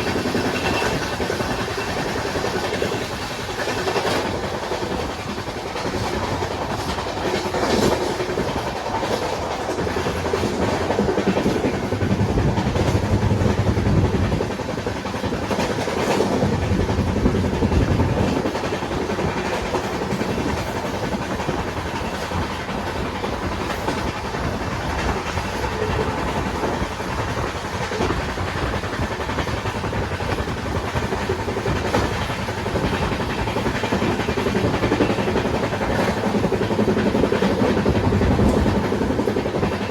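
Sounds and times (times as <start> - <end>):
train rumble: 0.0 - 39.9
wheels clacking over rail joints: 0.0 - 39.9.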